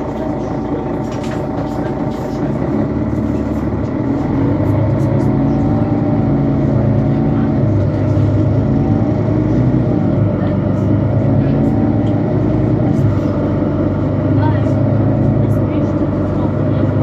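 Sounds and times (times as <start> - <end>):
bus diesel engine under load: 0.0 - 17.0.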